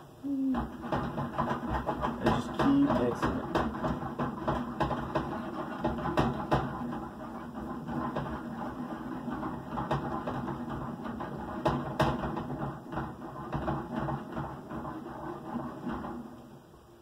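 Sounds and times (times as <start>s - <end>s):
pan rattling on metal grate: 0.8s - 14.4s.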